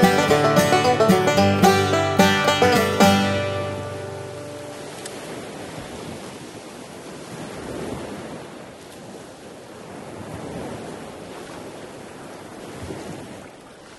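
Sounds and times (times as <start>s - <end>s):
sea waves washing: 0.0s - 13.9s.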